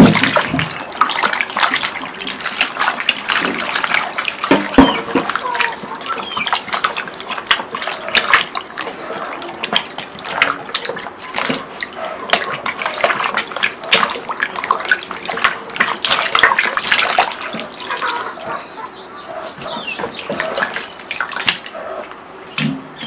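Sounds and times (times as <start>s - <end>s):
hands splashing in water: 0.0s - 18.6s, 20.1s - 21.8s.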